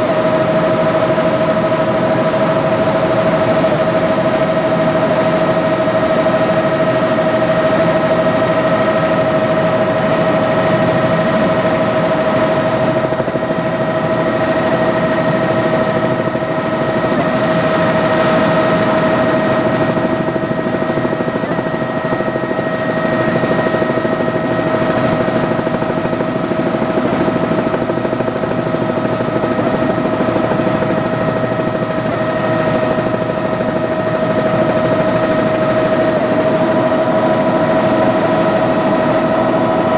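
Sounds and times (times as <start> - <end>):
helicopter engine whine: 0.0 - 39.9
helicopter rotor beat: 0.0 - 39.9.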